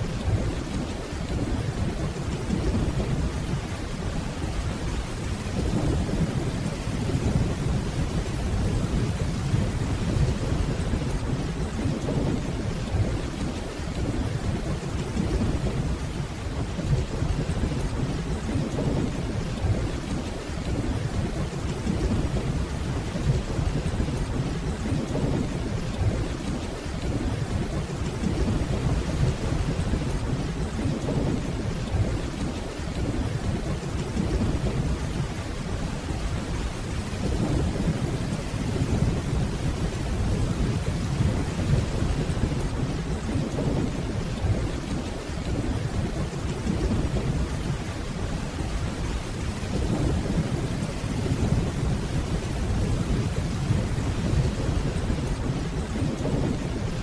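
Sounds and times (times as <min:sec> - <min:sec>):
distant rolling thunder: 0:00.0 - 0:57.0
steady rainfall: 0:00.0 - 0:57.0.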